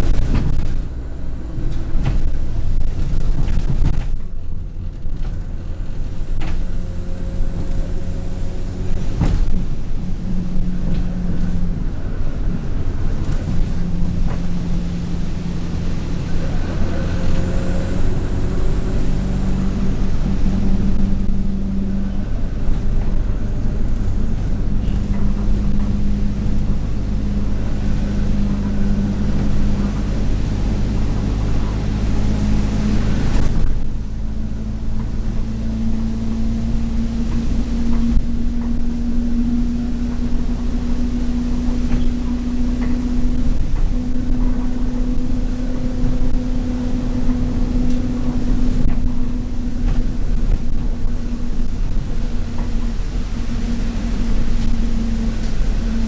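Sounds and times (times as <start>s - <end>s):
bus engine drone: 0.0s - 56.0s
faint high turbo whine: 0.0s - 56.0s
road rumble: 0.0s - 56.0s.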